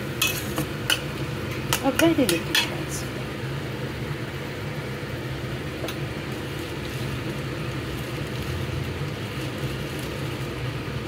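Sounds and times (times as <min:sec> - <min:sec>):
kitchen background rumble: 0:00.0 - 0:11.0.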